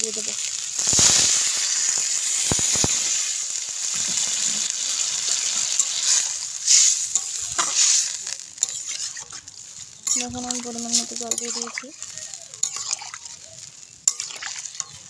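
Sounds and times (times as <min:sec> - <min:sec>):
curry sizzling in a pan: 0:00.0 - 0:15.0
metal spatula stirring and scraping: 0:00.4 - 0:15.0.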